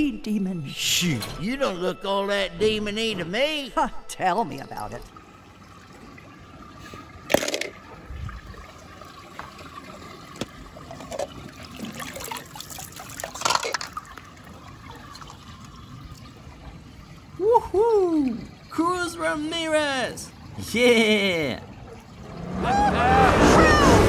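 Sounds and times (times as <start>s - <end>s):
water sloshing and trickling: 0.5s - 23.3s.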